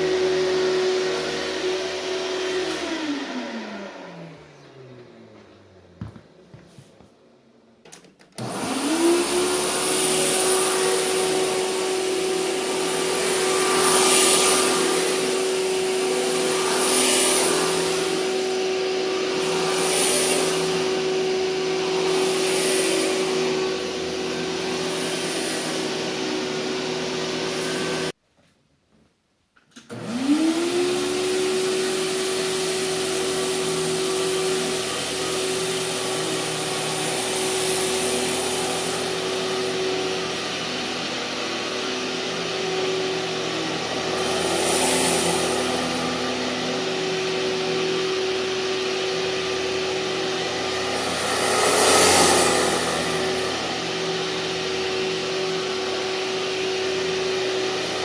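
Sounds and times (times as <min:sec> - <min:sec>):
vacuum cleaner running: 0:00.0 - 0:07.0, 0:08.3 - 0:28.2, 0:29.8 - 0:58.0.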